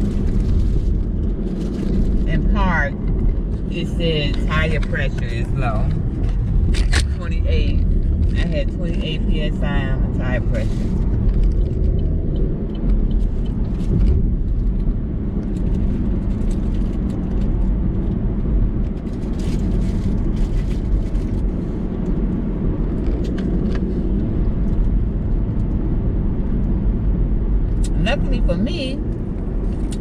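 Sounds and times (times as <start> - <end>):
car engine rumble: 0.0 - 30.0.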